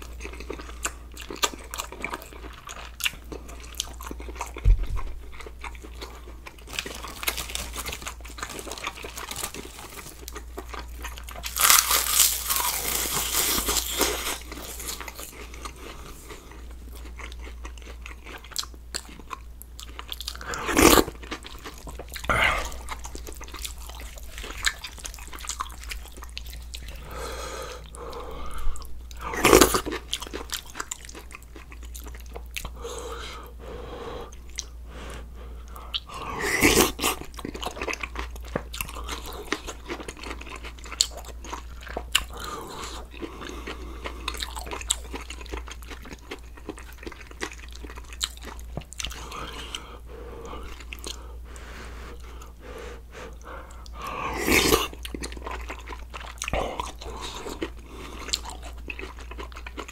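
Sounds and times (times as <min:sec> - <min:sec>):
person chewing and crunching: 0:00.0 - 0:33.6, 0:34.2 - 0:52.6, 0:53.2 - 0:59.9.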